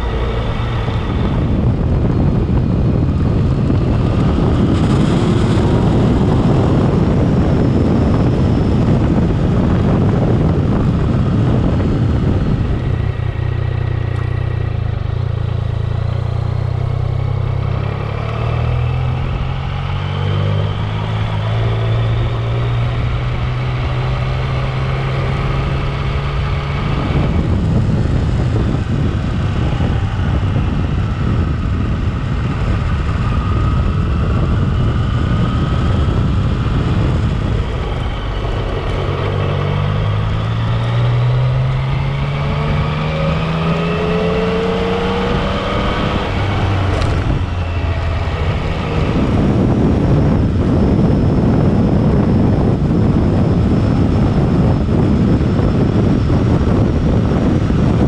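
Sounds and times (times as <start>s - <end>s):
motorcycle engine accelerating: 0.0s - 58.0s
wind noise on microphone: 0.0s - 58.0s.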